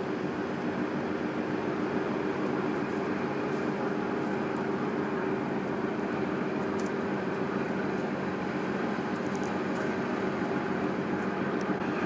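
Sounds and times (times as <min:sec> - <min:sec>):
tugboat diesel engines droning: 0:00.0 - 0:12.0.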